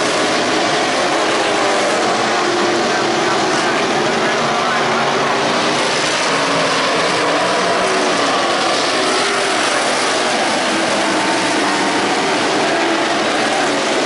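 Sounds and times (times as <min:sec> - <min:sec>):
race car engines running together: 0:00.0 - 0:14.0.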